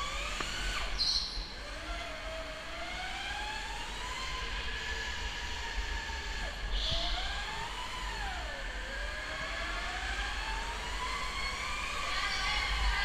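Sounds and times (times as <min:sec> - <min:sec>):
electric go-kart motor whining: 0:00.0 - 0:13.0.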